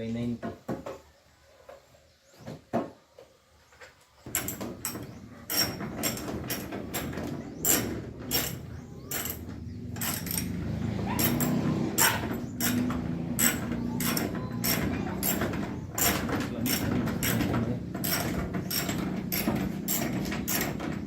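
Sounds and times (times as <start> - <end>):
knocks and clicks of handling: 2.4 - 10.6, 11.2 - 21.0.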